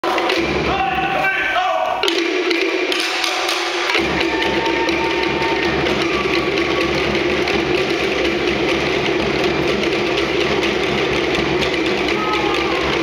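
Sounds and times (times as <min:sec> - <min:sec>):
slit log drums fast rolling beat: 0:00.0 - 0:13.0
deep drum: 0:02.0 - 0:13.0.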